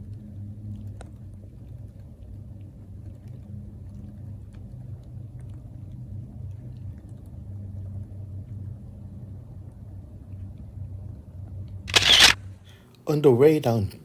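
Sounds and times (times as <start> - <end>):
faint hum: 0.0 - 14.0
low steady rumble: 0.0 - 14.0.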